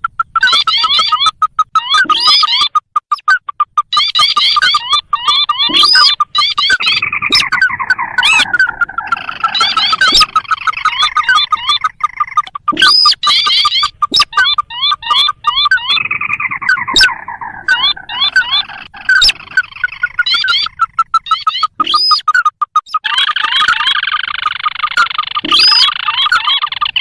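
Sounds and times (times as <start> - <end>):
bird calls in rapid trains: 0.0 - 27.0.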